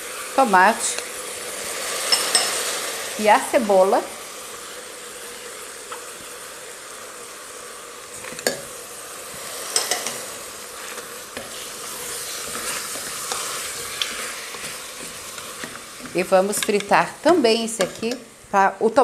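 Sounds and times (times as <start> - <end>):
meat and onion sizzling in pot: 0.0 - 19.0.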